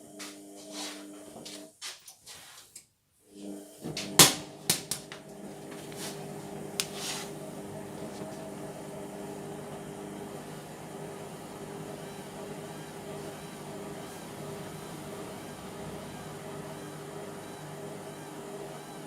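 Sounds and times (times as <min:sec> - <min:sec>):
washing machine drum motor humming: 0:03.4 - 0:19.0.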